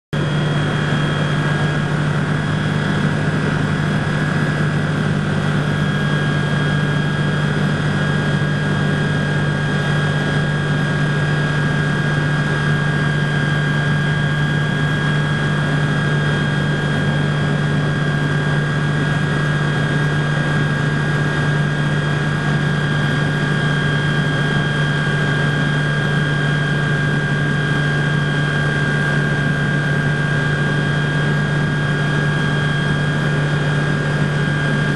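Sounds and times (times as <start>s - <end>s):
aircraft engine drone in cockpit: 0.1s - 34.9s.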